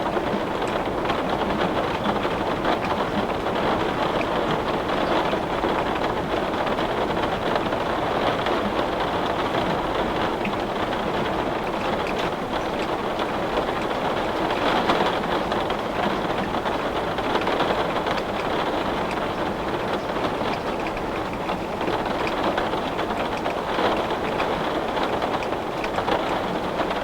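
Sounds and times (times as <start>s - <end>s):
rain on window glass: 0.0s - 27.0s.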